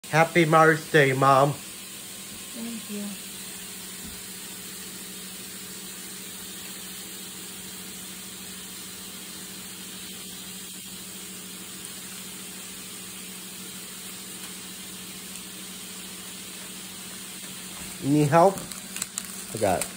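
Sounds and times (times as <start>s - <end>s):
steady low hum with hiss: 0.1s - 19.9s.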